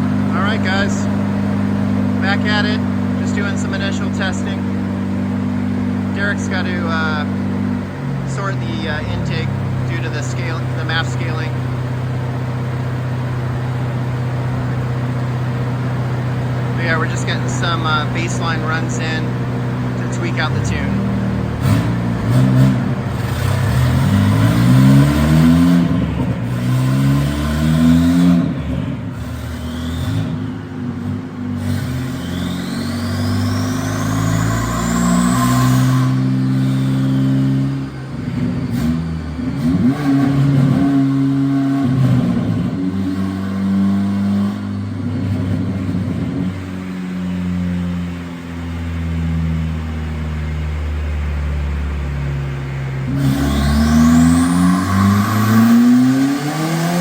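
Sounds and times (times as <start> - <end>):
car engine revving: 0.0 - 57.0
high turbo whine: 0.0 - 57.0.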